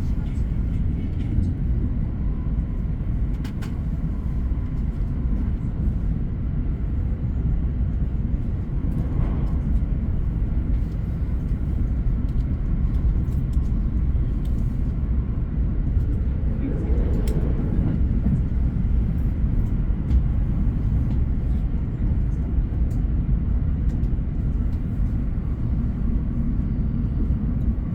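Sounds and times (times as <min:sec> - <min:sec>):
train rumbling: 0:00.0 - 0:27.9.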